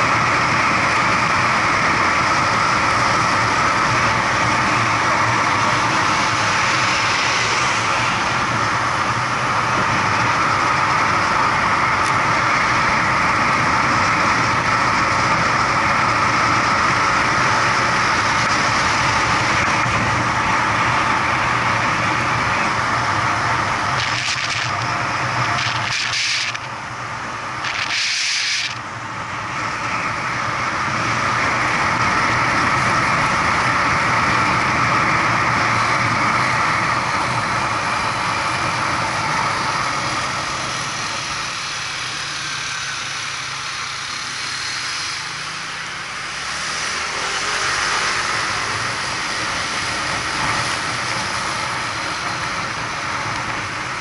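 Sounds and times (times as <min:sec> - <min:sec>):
road and wind noise: 0:00.0 - 0:54.0
vehicle engine accelerating: 0:00.0 - 0:54.0.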